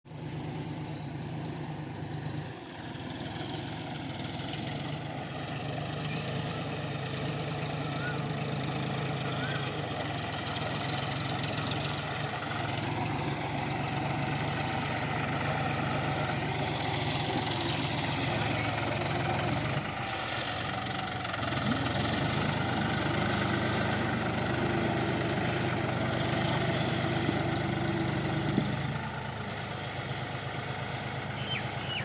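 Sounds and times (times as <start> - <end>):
tractor diesel engine idling: 0.1 - 32.0.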